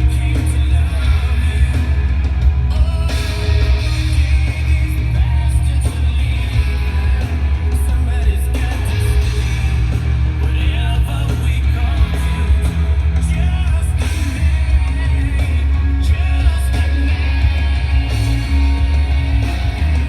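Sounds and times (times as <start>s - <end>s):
heavy bass: 0.0s - 20.0s
rock song with singing: 0.0s - 20.0s.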